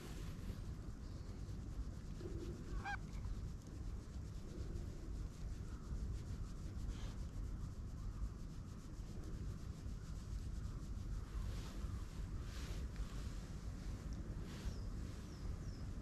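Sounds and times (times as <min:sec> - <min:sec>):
hand rubbing cat fur: 0:00.0 - 0:16.0.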